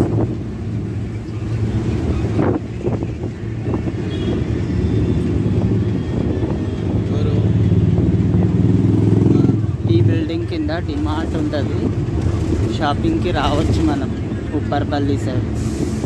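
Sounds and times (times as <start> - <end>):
bus engine droning: 0.0 - 16.0.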